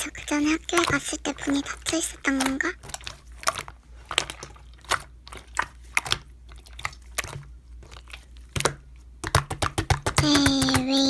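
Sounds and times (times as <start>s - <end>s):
slime squished by hand: 0.0s - 11.0s.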